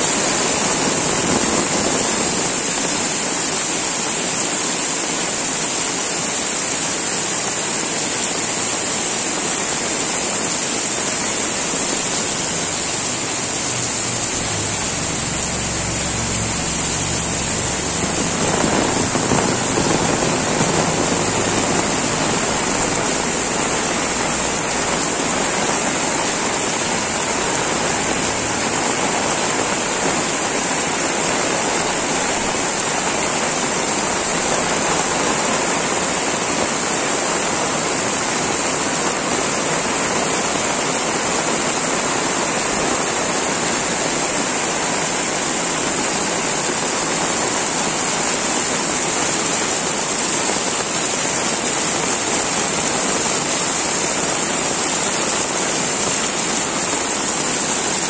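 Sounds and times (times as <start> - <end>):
heavy rain on wet paving: 0.0 - 58.0
water spilling off roof edges: 0.1 - 58.0.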